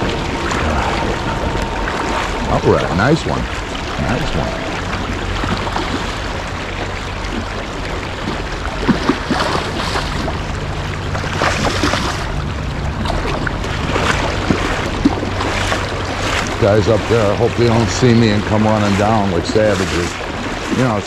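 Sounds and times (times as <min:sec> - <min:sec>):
short splashes and knocks: 0:00.0 - 0:10.4, 0:13.0 - 0:21.0
river current rushing: 0:00.0 - 0:21.0.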